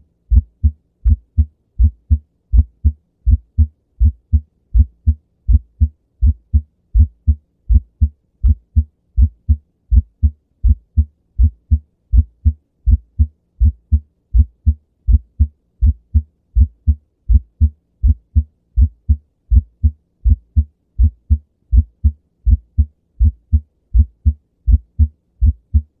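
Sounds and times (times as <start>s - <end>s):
heartbeat low thuds: 0.3s - 26.0s.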